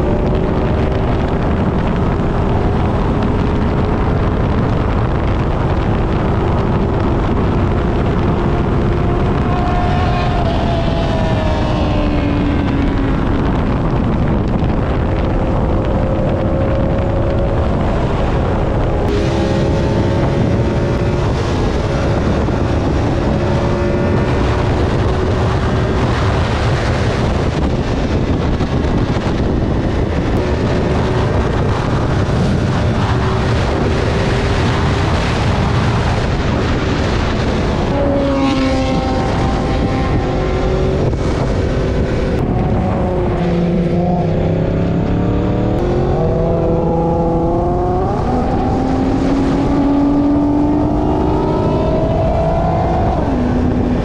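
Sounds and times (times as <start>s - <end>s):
motorcycle engines revving: 0.0s - 54.0s
steady rushing noise: 0.0s - 54.0s.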